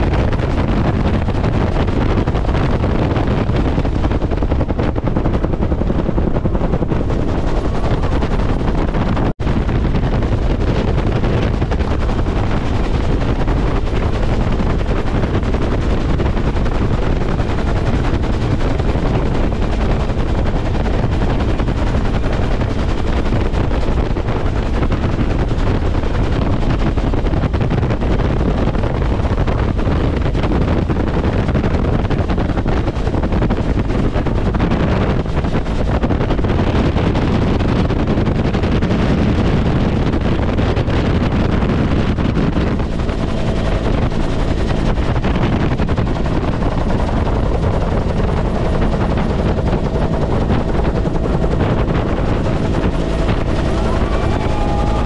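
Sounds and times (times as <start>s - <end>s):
helicopter turbine and rotor noise: 0.0s - 55.0s.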